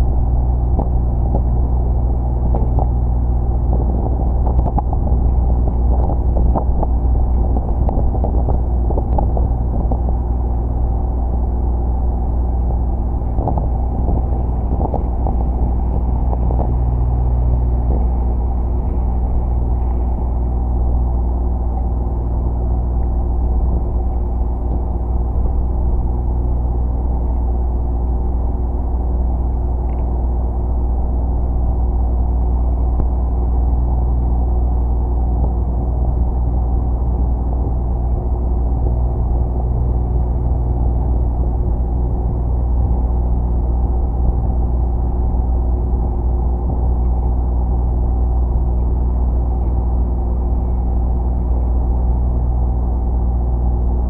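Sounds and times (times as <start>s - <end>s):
ship engine rumbling: 0.0s - 54.0s.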